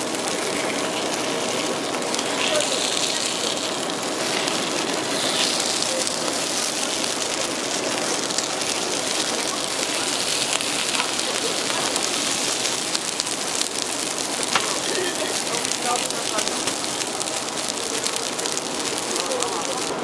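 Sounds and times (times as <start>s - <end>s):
batter sizzling on griddle: 0.0s - 20.0s.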